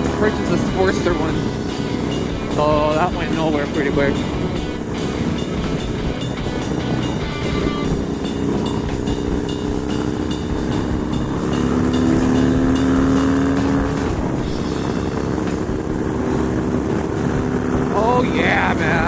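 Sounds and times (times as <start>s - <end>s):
motorcycle engine running hard: 0.0s - 19.0s.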